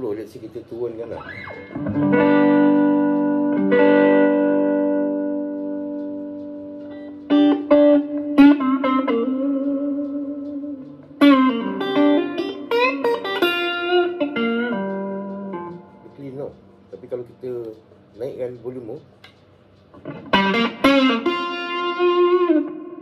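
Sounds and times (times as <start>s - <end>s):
overdriven electric guitar chords: 1.1s - 16.9s, 19.7s - 23.0s.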